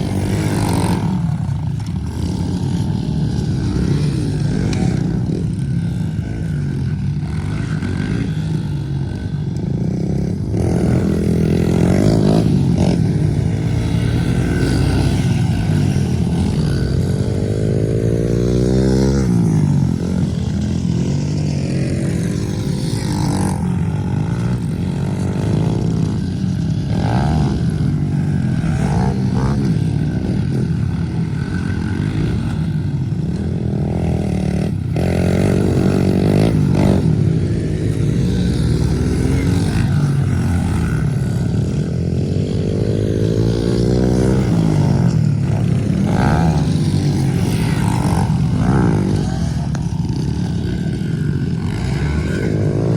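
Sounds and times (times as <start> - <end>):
pit bike engines revving: 0.0 - 52.9.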